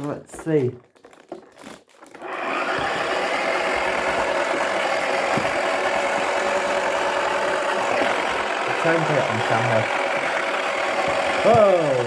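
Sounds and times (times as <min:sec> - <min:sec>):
small electric motor running: 0:02.1 - 0:12.0.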